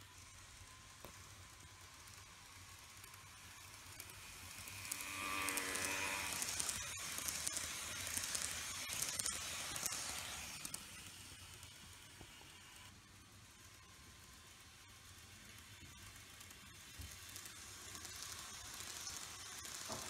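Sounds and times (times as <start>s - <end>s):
model train motor whirring: 0.0s - 20.0s.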